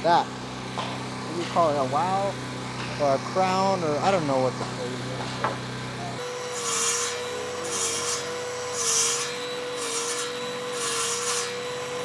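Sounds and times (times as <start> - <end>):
steady machine hum: 0.0 - 10.8
rasping strokes on wood: 1.3 - 11.9.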